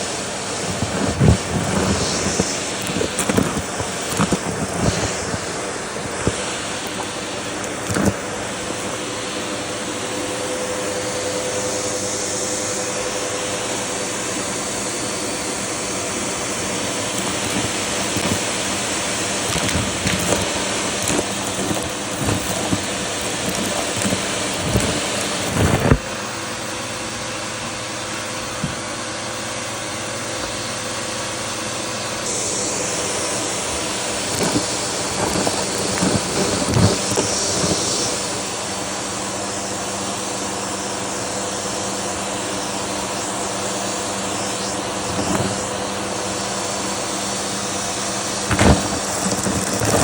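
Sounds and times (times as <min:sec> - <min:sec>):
vacuum cleaner running: 0:00.0 - 0:50.0.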